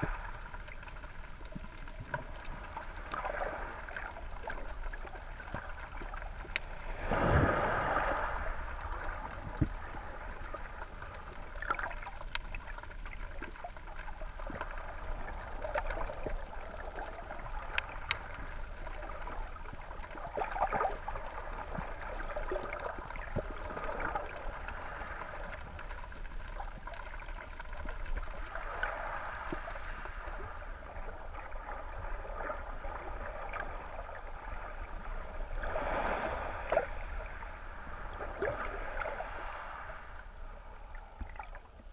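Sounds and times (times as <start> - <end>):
muffled underwater water rush: 0.0 - 41.9.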